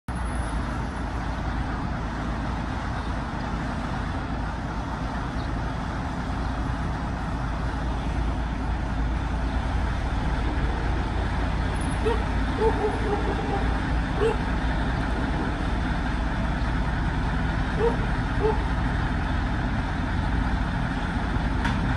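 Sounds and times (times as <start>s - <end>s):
diesel locomotive engine running: 0.1s - 21.9s.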